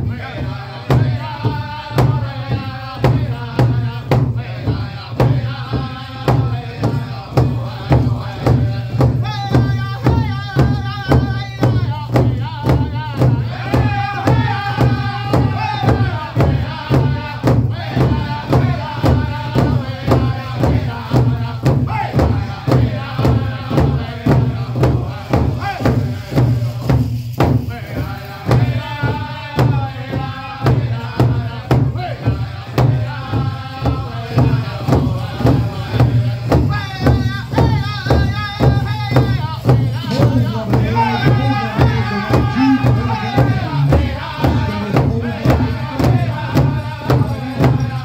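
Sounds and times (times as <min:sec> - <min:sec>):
big drum steady beat: 0:00.0 - 0:48.0
men singing in unison: 0:00.0 - 0:48.0.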